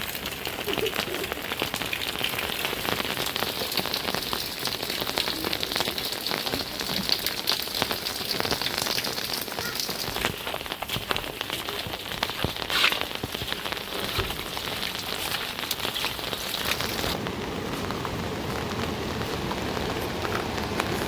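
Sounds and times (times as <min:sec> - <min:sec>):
rain on a hard surface: 0:00.0 - 0:21.0.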